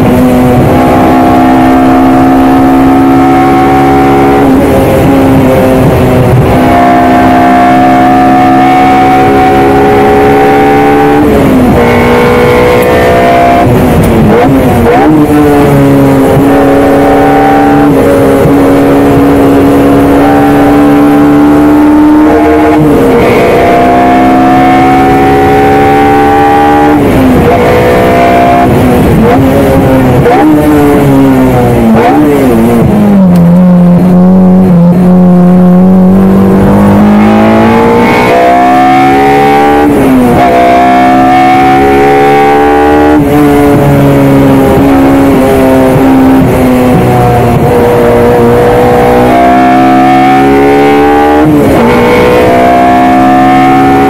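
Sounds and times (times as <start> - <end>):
car engine revving high: 0.0 - 54.0.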